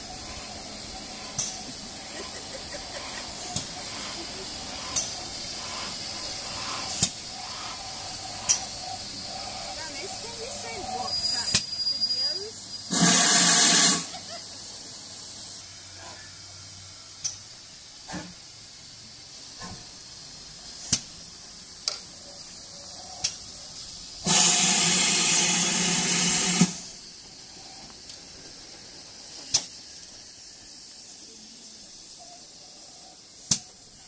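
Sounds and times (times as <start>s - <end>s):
loud burst of steam: 0.0s - 34.0s
steam locomotive hissing: 0.0s - 34.0s.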